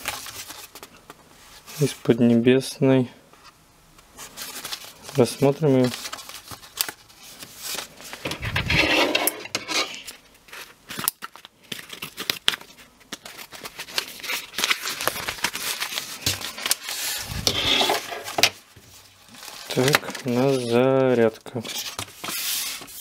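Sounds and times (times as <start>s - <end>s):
paper crinkling and rustling: 0.0s - 2.0s, 4.2s - 23.0s.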